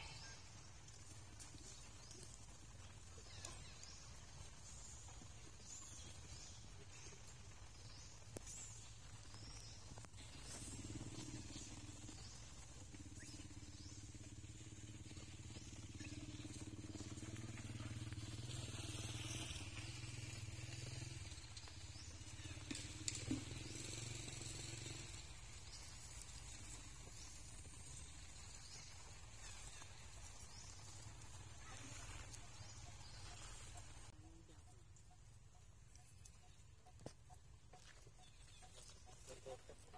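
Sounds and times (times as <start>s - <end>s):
faint low engine hum: 0.0s - 39.9s.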